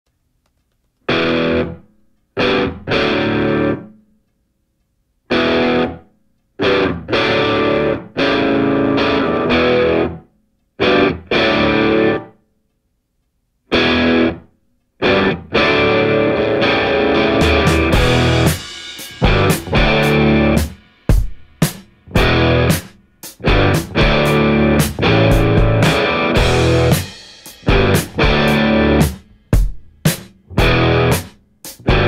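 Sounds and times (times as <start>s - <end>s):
distorted electric guitar chords: 1.1s - 1.8s, 2.4s - 3.9s, 5.3s - 6.0s, 6.6s - 10.2s, 10.8s - 12.4s, 13.7s - 29.7s, 30.4s - 32.0s.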